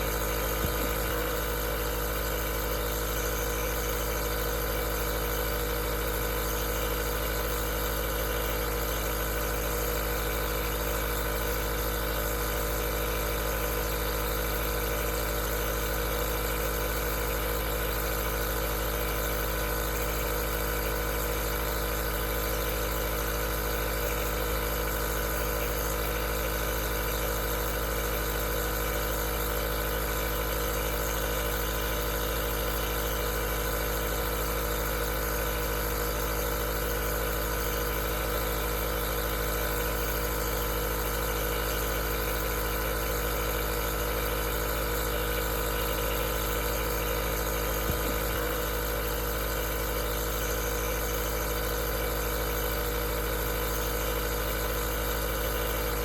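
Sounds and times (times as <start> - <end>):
compressor humming: 0.0 - 56.0.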